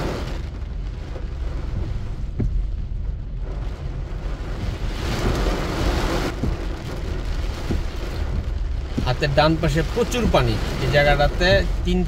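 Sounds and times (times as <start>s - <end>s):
heavy rain on car roof: 0.0s - 12.0s
windshield wiper sweeping: 0.0s - 12.0s.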